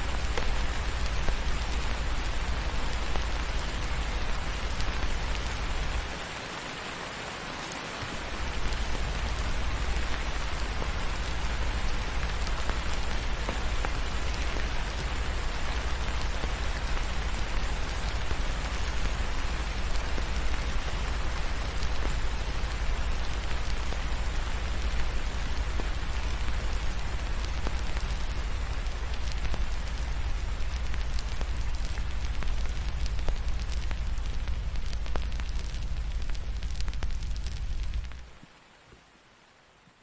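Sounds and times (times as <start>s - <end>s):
faint wood fire crackles: 0.0s - 39.9s
steady rain: 0.0s - 40.0s.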